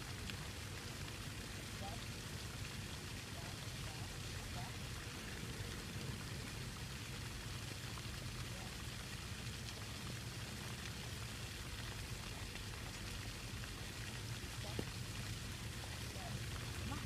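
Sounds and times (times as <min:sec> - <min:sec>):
low steady hum: 0:00.0 - 0:17.0
sprinkler water spray hissing: 0:00.0 - 0:17.0.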